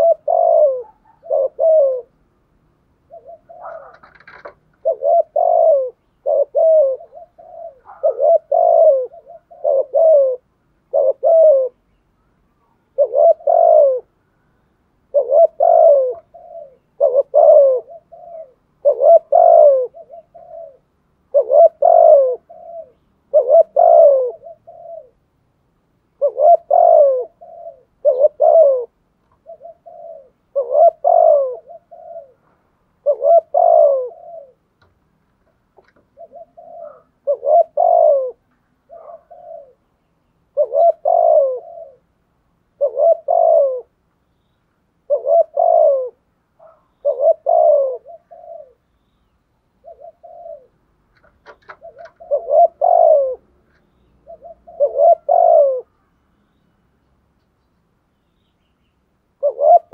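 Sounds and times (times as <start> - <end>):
dove cooing: 0.0 - 2.4, 3.0 - 11.9, 12.5 - 25.3, 26.1 - 34.8, 35.7 - 44.0, 45.0 - 49.0, 49.8 - 56.0, 59.4 - 59.9.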